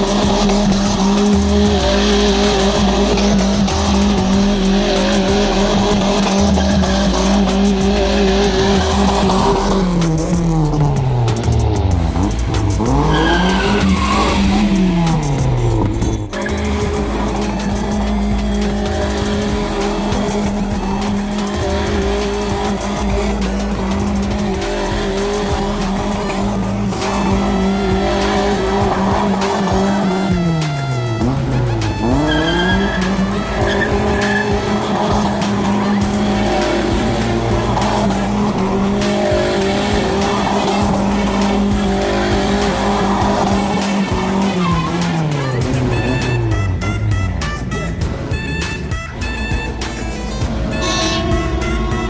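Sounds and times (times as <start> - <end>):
tyres squealing on asphalt: 0.0 - 10.8, 12.1 - 52.0
car engine revving high: 0.0 - 52.0.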